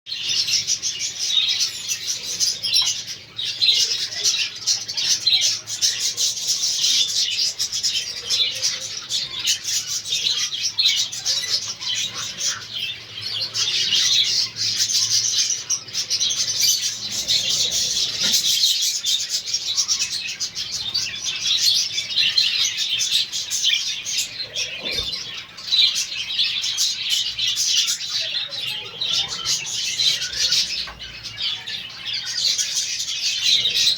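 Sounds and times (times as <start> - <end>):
budgerigar flock chattering: 0.1 - 33.9.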